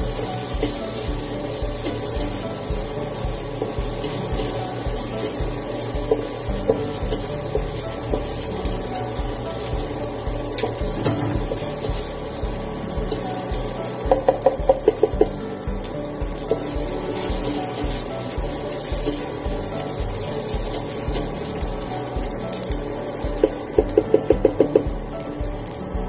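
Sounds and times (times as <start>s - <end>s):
spatula stirring: 0.0s - 24.8s
background music with beat: 0.0s - 26.0s
food sizzling in a pan: 0.0s - 26.0s.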